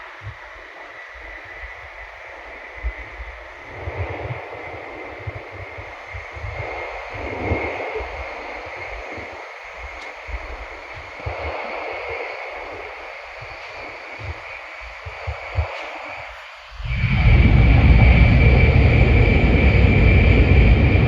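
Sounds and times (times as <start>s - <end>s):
faint high whine: 0.0s - 21.0s
train running noise inside cabin: 0.0s - 21.0s.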